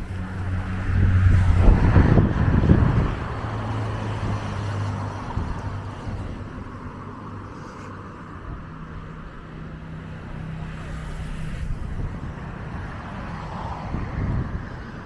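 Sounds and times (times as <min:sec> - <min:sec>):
vehicle engine running: 0:00.0 - 0:14.5
street traffic: 0:00.0 - 0:15.0.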